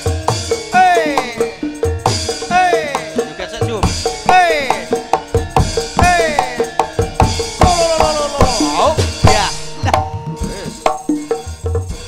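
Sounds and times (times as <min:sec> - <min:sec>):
drum strokes: 0:00.0 - 0:12.0
sliding pitched melody: 0:00.0 - 0:12.0.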